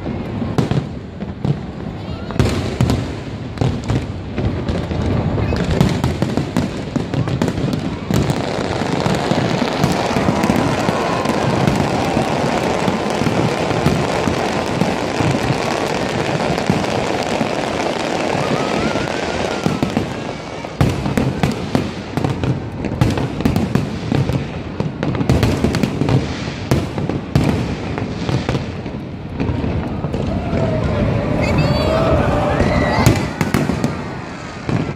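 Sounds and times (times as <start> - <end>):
fireworks crackling and banging: 0.0 - 34.9.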